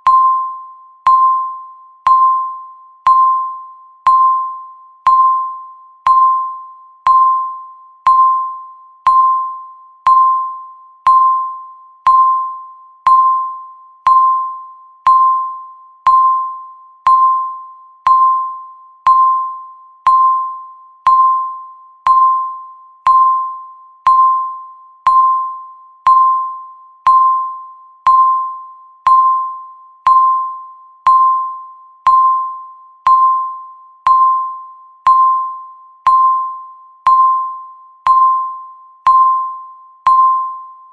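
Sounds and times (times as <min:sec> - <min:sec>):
countdown timer beeping: 0:00.0 - 0:40.9.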